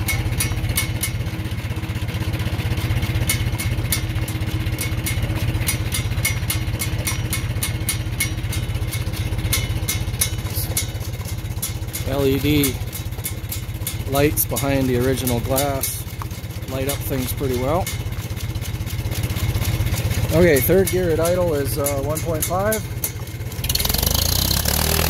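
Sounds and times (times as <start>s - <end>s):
tractor engine running: 0.0s - 25.0s
light ticks and rattles: 2.9s - 24.3s.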